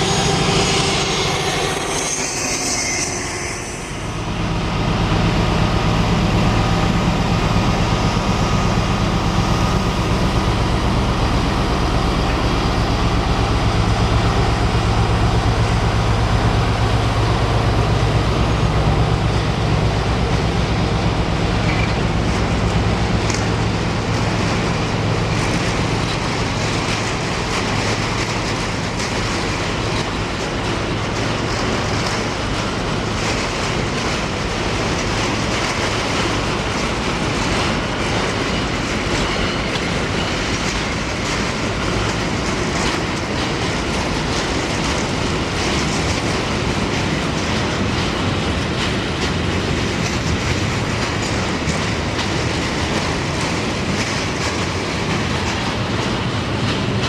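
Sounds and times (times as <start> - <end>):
wheels rushing on track: 0.0 - 57.0.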